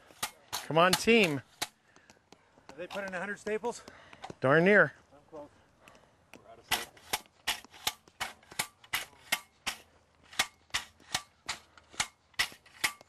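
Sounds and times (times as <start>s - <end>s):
staples hammered into ground: 0.0s - 4.4s, 6.3s - 13.0s.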